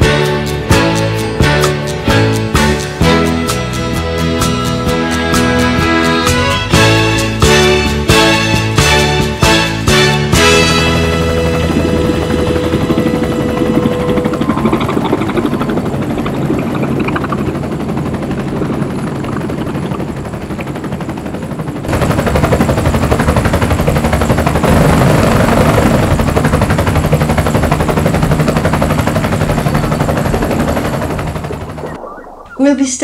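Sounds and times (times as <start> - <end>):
helicopter engine running: 0.0 - 33.0
helicopter rotor blades chopping: 0.0 - 33.0.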